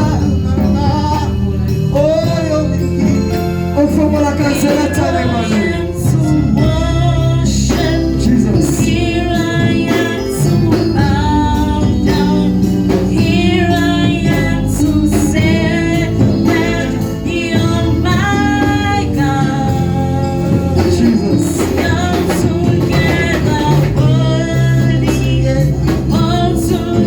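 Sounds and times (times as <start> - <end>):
gospel singing with accompaniment: 0.0 - 27.0.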